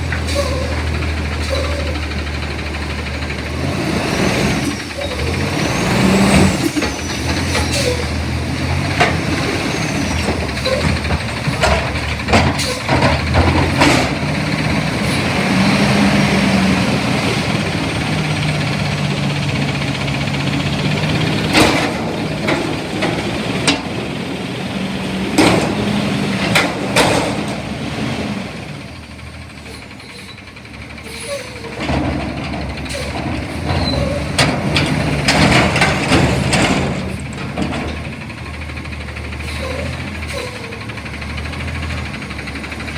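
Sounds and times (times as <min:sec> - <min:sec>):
garbage truck engine: 0:00.0 - 0:42.9.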